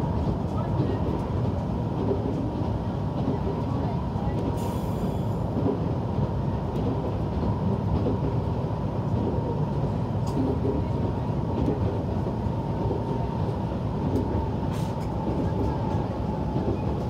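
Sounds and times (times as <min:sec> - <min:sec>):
train engine rumble: 0:00.0 - 0:17.0.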